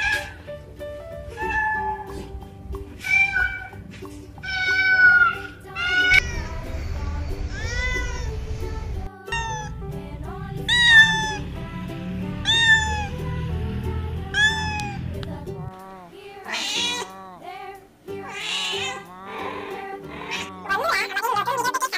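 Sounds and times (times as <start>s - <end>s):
cats meowing: 0.0s - 0.4s, 1.3s - 9.9s, 10.6s - 11.5s, 12.2s - 13.5s, 14.3s - 15.1s, 15.7s - 21.9s.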